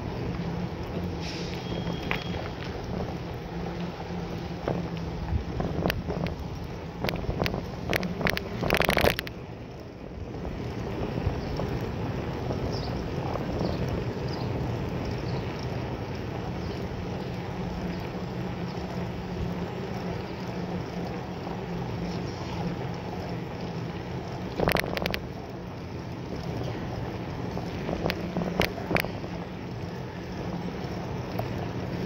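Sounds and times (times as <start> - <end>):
bicycle tyres rolling: 0.0 - 32.0.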